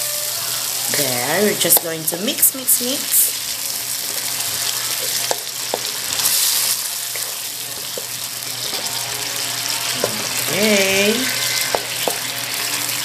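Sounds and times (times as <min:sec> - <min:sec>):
fish sizzling in a pan: 0:00.0 - 0:13.0.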